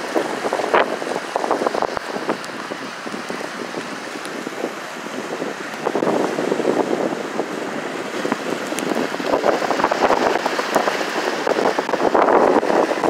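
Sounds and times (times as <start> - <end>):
waves breaking and washing: 0.0 - 13.0
wind buffeting microphone: 0.0 - 13.0.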